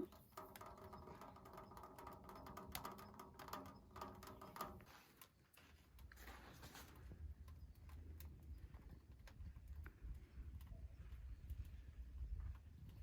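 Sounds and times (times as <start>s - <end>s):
wood stove crackling and ticking: 0.0s - 13.0s.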